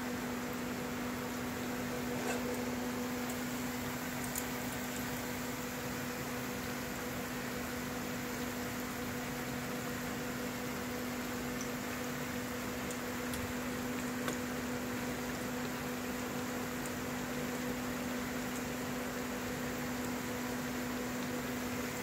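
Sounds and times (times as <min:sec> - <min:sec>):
oil sizzling: 0:00.1 - 0:22.0.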